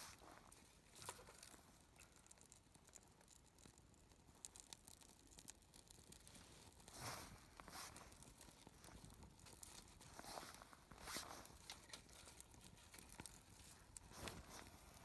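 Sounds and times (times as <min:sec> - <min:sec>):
soft rustle: 0:00.0 - 0:03.0, 0:05.8 - 0:15.0
wood fire crackling: 0:00.0 - 0:15.0.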